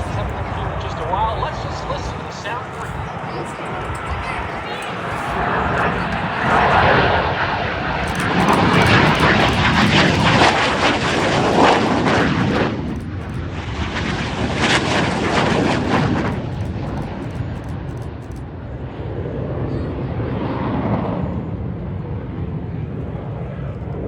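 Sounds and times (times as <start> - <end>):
jet engine roaring: 0.0 - 24.0.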